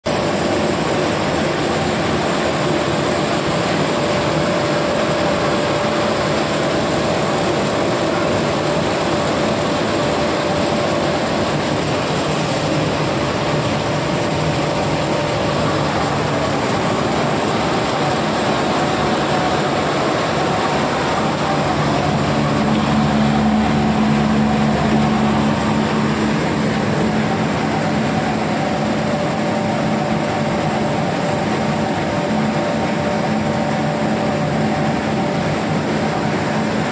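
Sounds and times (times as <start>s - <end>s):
faint machine whine: 0.0s - 36.9s
loud mechanical drone: 0.0s - 36.9s.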